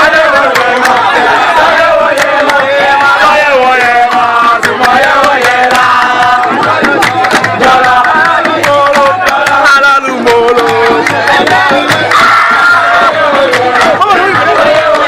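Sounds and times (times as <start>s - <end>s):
fast hand percussion: 0.0s - 15.0s
voices singing: 0.0s - 15.0s.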